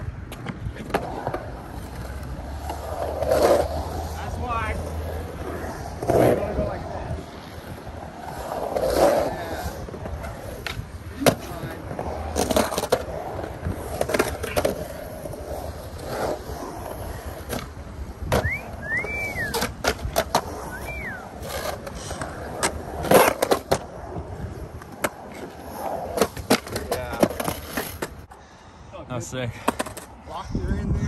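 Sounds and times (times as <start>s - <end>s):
skateboard wheels rolling on concrete: 0.0s - 31.0s.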